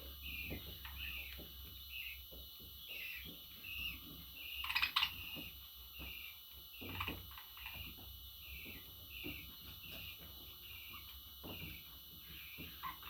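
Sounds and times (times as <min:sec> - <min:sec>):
budgerigar chirping: 0:00.2 - 0:13.0.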